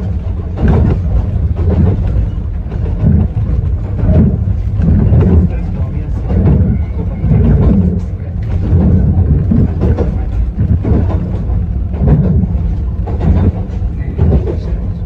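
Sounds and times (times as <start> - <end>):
electric train rumbling on track: 0.0 - 15.0
knocks from the rails: 0.6 - 14.9.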